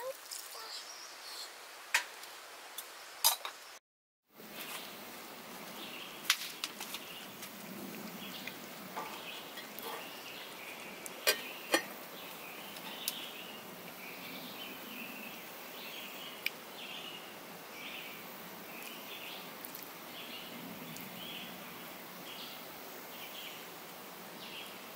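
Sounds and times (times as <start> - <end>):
birds chirping: 0.0 - 1.6, 5.7 - 24.9.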